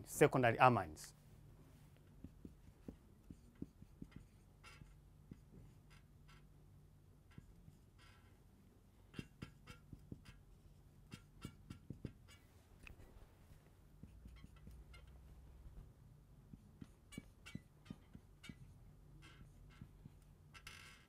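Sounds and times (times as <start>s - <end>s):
marker writing on whiteboard: 1.8s - 6.6s, 7.2s - 8.5s, 9.1s - 21.0s.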